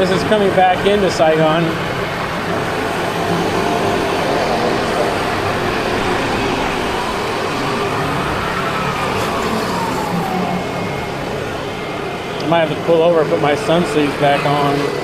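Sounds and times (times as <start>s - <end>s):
scooter road and engine noise: 0.0s - 15.0s.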